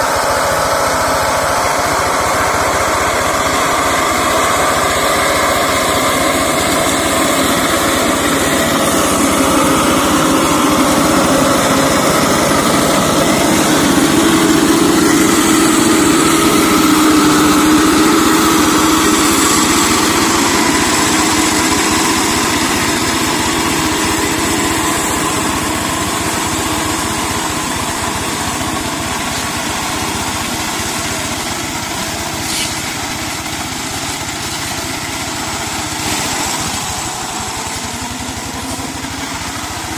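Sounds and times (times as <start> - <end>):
diesel mower engine running: 0.0 - 39.9.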